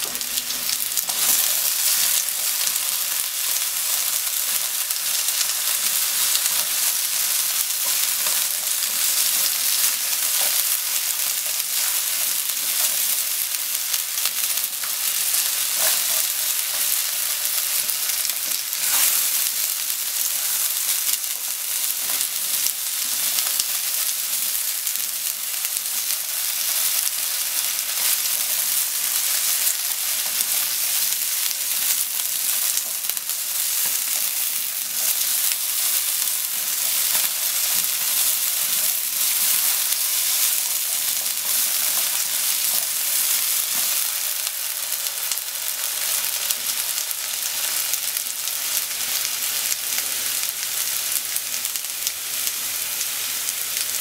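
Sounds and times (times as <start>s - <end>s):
potatoes sizzling in oil: 0.0s - 54.0s.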